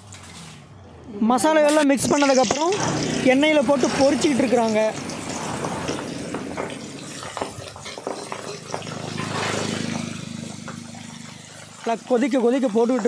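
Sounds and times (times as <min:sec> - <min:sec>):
fish deep-frying in oil: 0:01.8 - 0:13.0.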